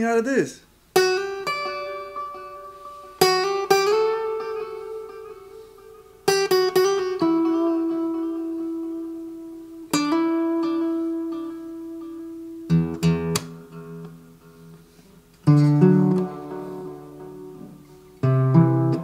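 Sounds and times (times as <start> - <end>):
acoustic guitar with delay echoes: 0.9 - 19.0.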